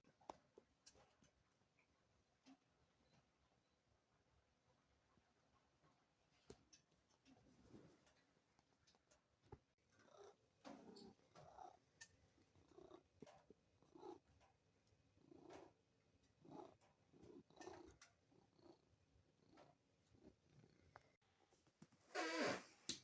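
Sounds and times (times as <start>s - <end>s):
cat purring faintly: 1.0s - 22.8s.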